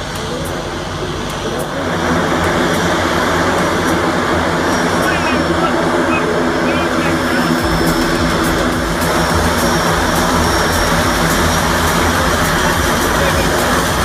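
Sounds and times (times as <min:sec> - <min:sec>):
turboprop engines running: 0:00.0 - 0:14.0.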